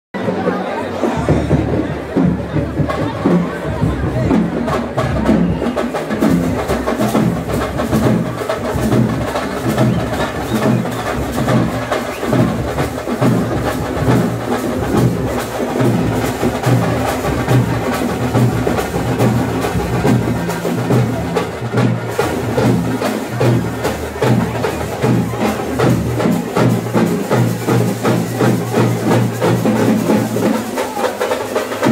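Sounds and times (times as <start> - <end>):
fast festival drumming: 0.2 - 31.9.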